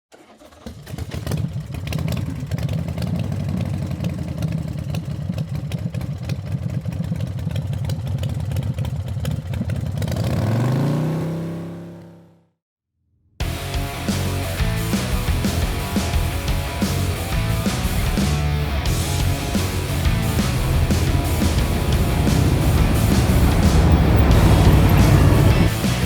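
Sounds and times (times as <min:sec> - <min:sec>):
motorcycle engine idling and revving: 0:00.3 - 0:12.6, 0:13.4 - 0:26.0.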